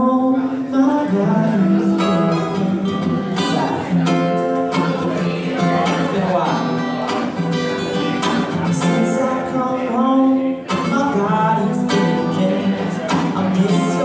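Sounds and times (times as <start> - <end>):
acoustic guitar strumming: 0.0 - 14.0
man singing: 0.0 - 14.0.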